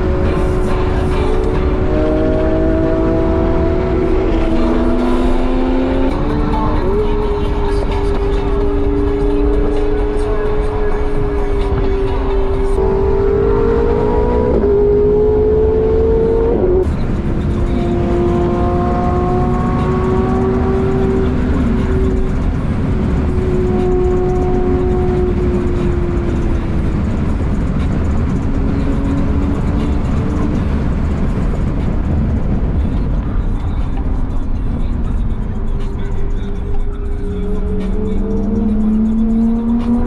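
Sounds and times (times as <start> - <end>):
car engine accelerating: 0.0 - 40.0
wind and road noise: 0.0 - 40.0.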